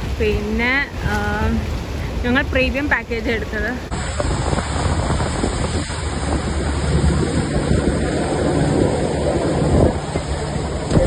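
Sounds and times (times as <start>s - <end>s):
boat engine: 0.0s - 11.0s
rush of boat wake: 0.0s - 11.0s
wind buffeting microphone: 0.0s - 11.0s.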